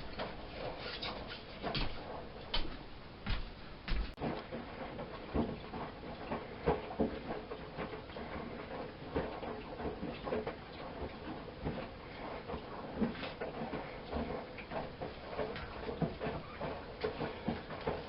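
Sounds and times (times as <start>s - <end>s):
laundry knocking and splashing: 0.0s - 18.0s
washing machine washing: 0.0s - 18.0s.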